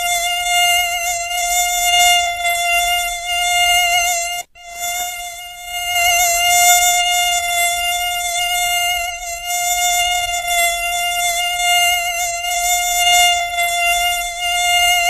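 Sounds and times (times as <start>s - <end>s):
mosquito whine: 0.0s - 15.0s.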